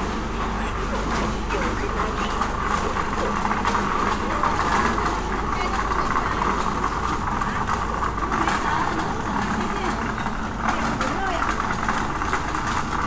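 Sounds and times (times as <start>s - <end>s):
street noise: 0.0s - 13.0s
vehicle engine running: 0.0s - 13.0s.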